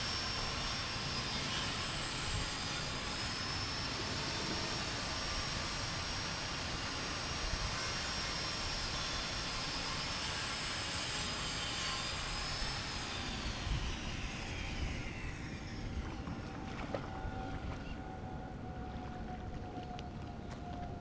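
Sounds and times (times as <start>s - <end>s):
aircraft passing overhead: 0.0s - 21.0s.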